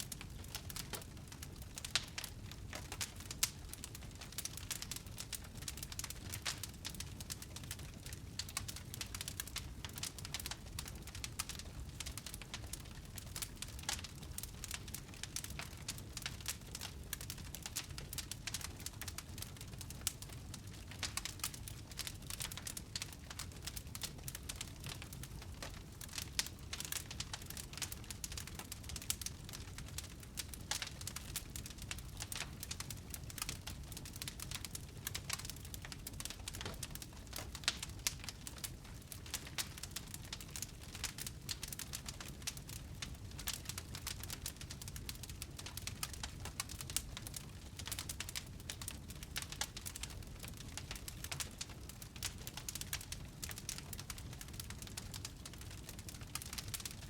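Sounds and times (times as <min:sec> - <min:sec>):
low steady fire rumble: 0:00.0 - 0:57.0
wood fire crackling: 0:00.0 - 0:57.0.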